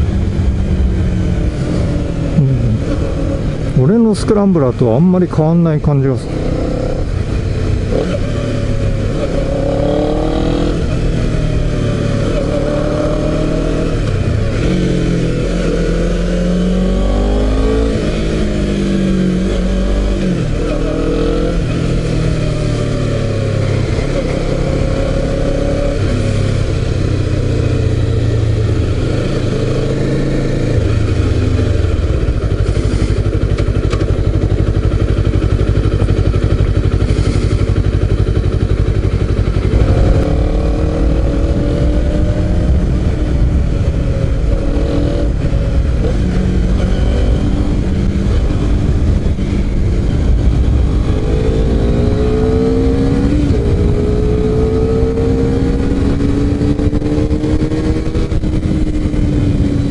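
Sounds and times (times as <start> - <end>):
motorcycle engine accelerating: 0.0 - 4.0, 6.0 - 59.9.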